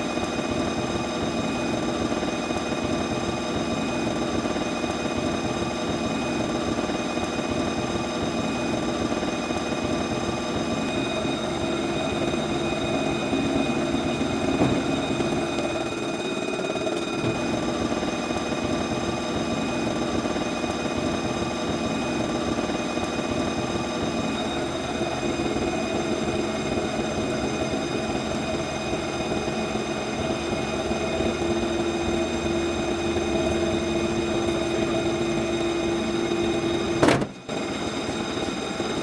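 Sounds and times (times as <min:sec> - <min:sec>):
high spindle whine: 0:00.0 - 0:39.0
milling machine cutting metal: 0:00.1 - 0:39.0.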